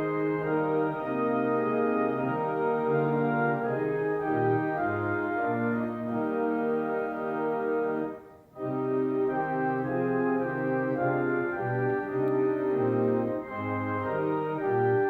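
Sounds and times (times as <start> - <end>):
church organ playing hymn chords: 0.0 - 15.0.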